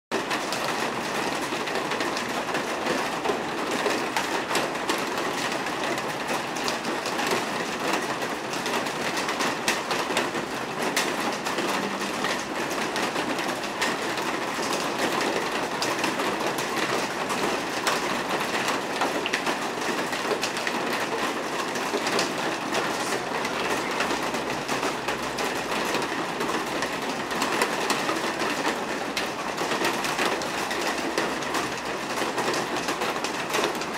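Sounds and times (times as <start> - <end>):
rain pattering: 0.1 - 33.9.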